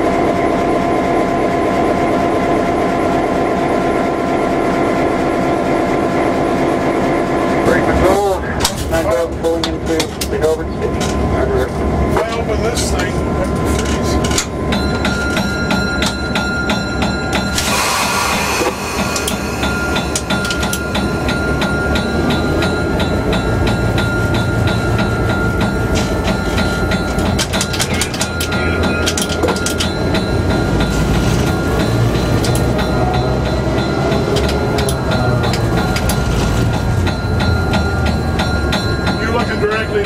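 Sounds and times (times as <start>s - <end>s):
diesel engine drone: 0.0s - 40.0s.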